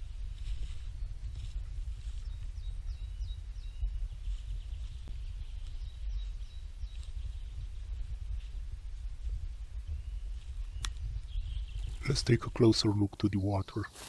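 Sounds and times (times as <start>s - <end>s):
steady low rumble: 0.0s - 13.7s
small birds chirping: 0.0s - 14.0s.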